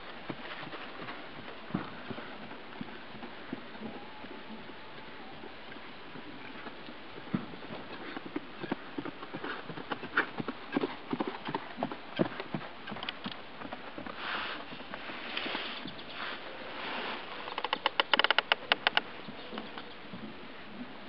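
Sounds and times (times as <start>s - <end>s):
hoofbeats on grass: 0.0s - 20.4s.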